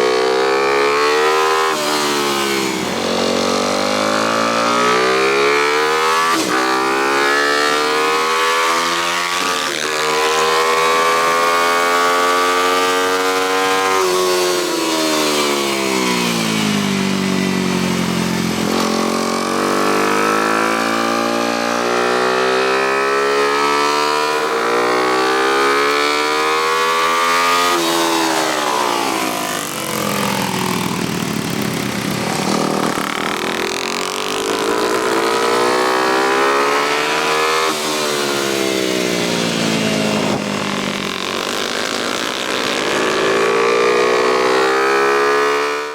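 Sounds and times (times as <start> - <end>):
motorcycle engine revving through gears: 0.0 - 45.9.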